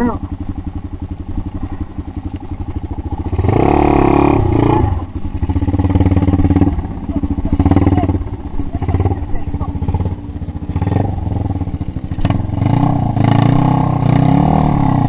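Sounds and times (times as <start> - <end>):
dirt bike engine idling and revving: 0.0 - 15.0.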